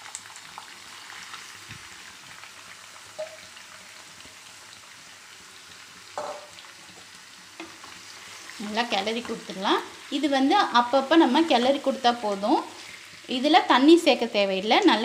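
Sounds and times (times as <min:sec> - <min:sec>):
prawns sizzling in oil: 0:00.0 - 0:15.0.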